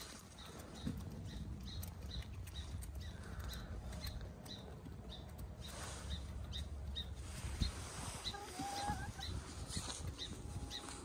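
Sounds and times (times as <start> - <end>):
hens pecking in straw: 0.0 - 11.0.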